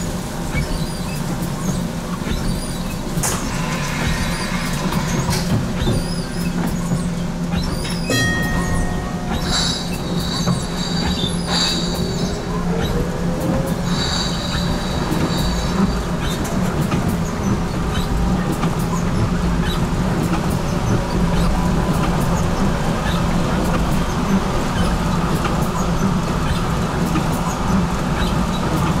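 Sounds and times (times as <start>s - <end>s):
tram hum: 0.0s - 29.0s
wheels squealing on rails: 0.0s - 29.0s.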